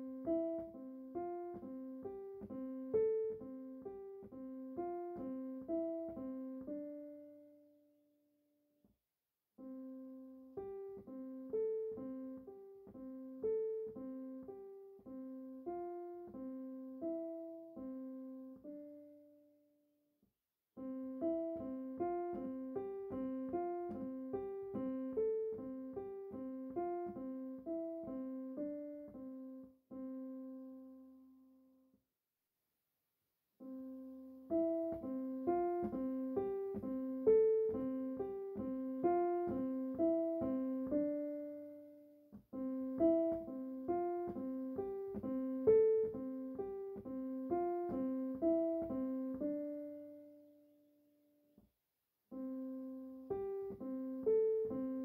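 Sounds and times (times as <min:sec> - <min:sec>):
gentle piano music: 0:00.0 - 0:08.1, 0:09.6 - 0:19.8, 0:20.8 - 0:31.8, 0:33.6 - 0:51.6, 0:52.3 - 0:55.0.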